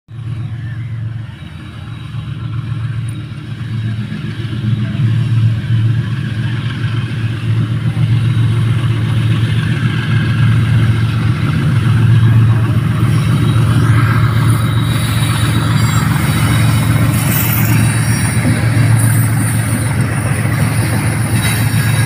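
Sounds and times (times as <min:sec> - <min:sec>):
locomotive engine humming: 0:00.1 - 0:22.0.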